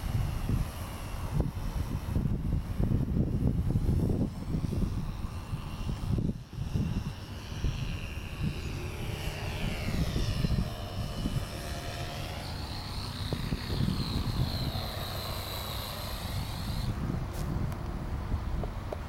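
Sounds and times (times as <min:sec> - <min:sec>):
model airplane motor whining: 0:00.0 - 0:18.8.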